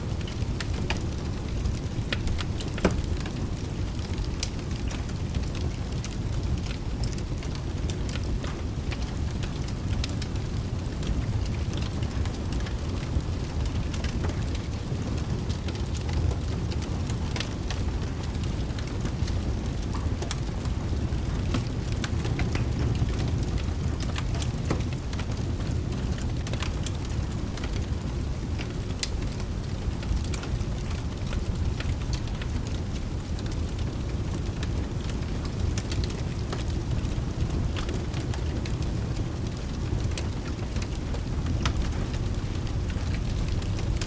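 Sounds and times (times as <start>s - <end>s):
rain falling: 0.0s - 44.0s
wood fire crackling: 0.0s - 44.0s.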